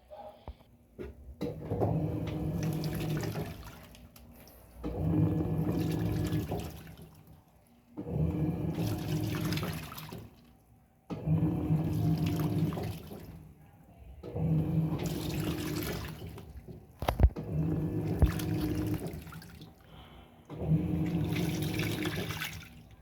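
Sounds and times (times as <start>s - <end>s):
washing machine motor humming: 0.1s - 23.0s
water sloshing: 1.6s - 23.0s.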